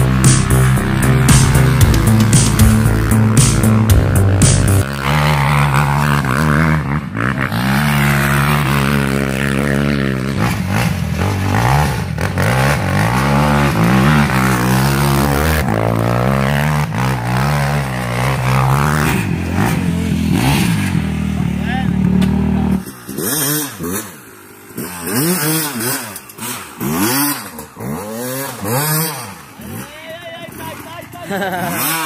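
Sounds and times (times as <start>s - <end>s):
quad engine revving: 0.0s - 32.0s.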